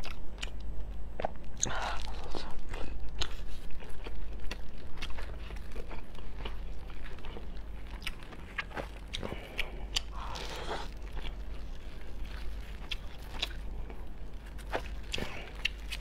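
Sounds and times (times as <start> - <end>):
chewing and crunching crab: 0.0 - 16.0.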